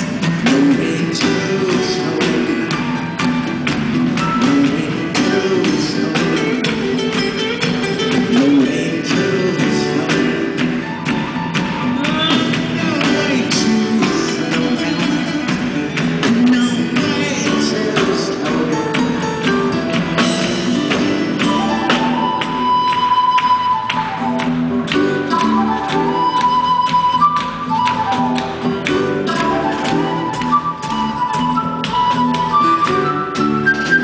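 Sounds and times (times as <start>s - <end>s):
steady drum beat: 0.0s - 33.9s
bass guitar: 0.0s - 34.0s
guitar: 0.0s - 34.0s.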